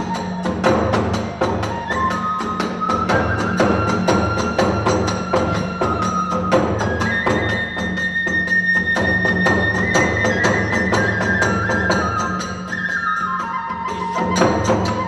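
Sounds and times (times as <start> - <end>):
bamboo flute high notes: 0.0 - 15.0.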